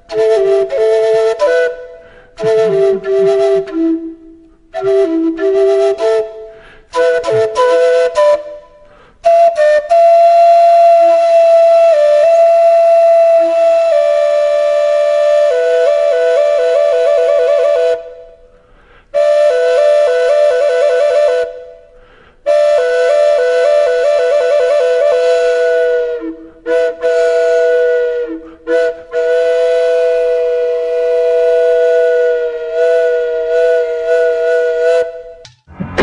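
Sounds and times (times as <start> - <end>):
flute melody with trills: 0.0 - 18.5, 19.2 - 21.8, 22.5 - 36.0.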